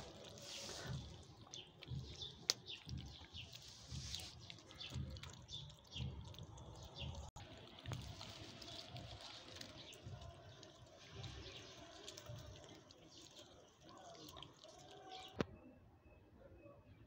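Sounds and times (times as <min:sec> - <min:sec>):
cats chewing and lapping food: 0:00.0 - 0:15.4.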